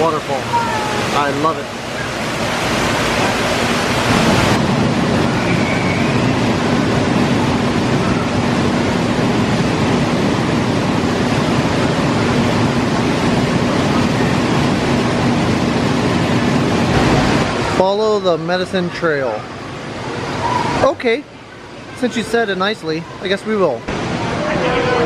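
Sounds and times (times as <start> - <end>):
waterfall rushing: 0.0 - 21.2, 22.0 - 25.0.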